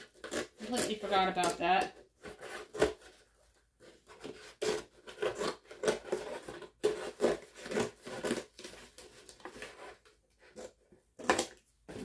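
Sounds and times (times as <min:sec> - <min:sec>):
scissors cutting cardboard: 0:00.0 - 0:12.0.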